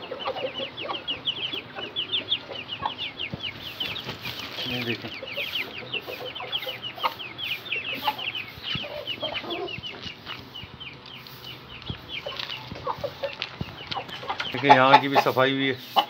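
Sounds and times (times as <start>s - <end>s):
chicken clucks: 0.0s - 16.0s
small birds peeping: 0.0s - 16.0s.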